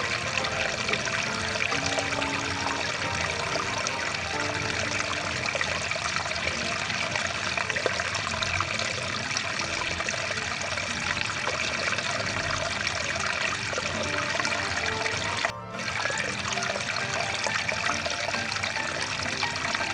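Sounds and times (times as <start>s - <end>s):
stream water rushing: 0.0s - 19.9s.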